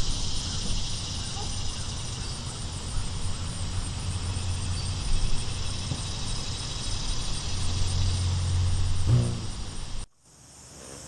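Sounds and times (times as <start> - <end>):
hummingbird wings humming: 0.0 - 10.1
high insect chorus: 0.0 - 11.0.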